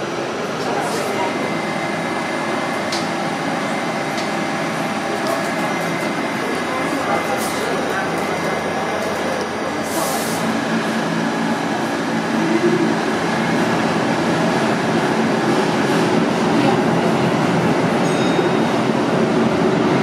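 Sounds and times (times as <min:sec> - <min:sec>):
subway train wheels rumbling on rail: 0:00.0 - 0:20.0.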